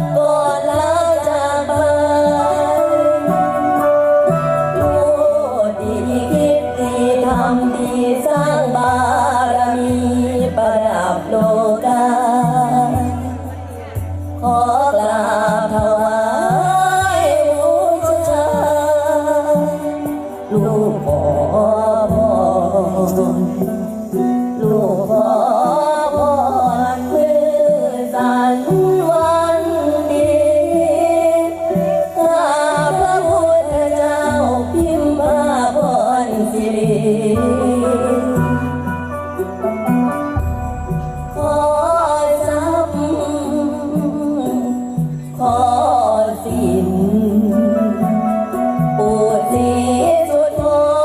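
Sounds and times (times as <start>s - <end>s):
instrumental backing music: 0.0s - 51.0s
person singing: 0.0s - 51.0s
wavering vocal melody: 0.0s - 51.0s.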